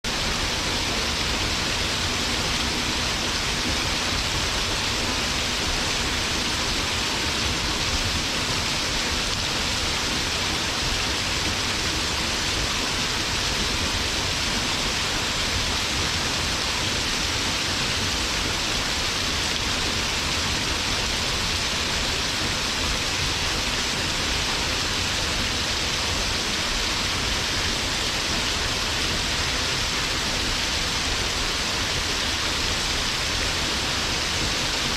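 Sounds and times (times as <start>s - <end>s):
waterfall pouring: 0.1s - 34.9s.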